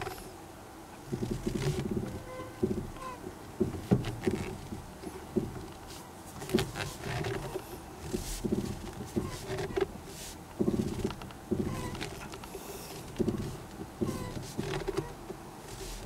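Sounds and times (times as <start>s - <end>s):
car steering creaking groans: 0.0s - 0.4s, 1.0s - 16.0s.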